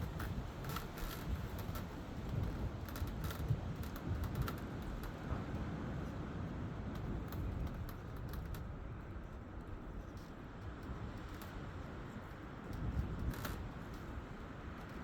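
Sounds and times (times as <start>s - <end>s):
light clicks and rustles: 0.0s - 15.0s.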